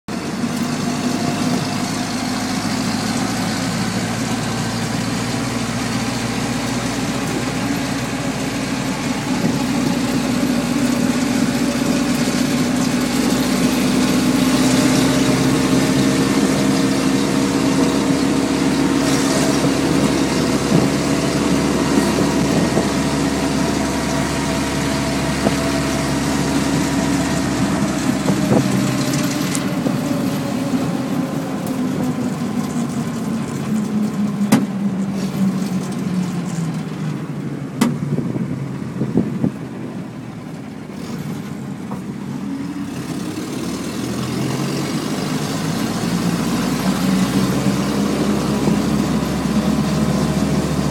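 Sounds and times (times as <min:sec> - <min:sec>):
jeep engine running while driving: 0:00.1 - 0:50.9.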